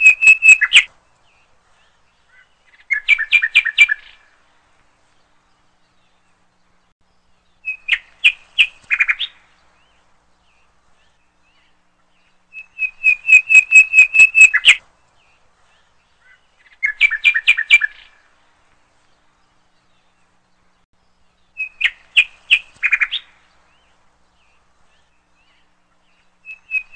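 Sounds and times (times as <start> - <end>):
songbird chirping: 0.0 - 26.9.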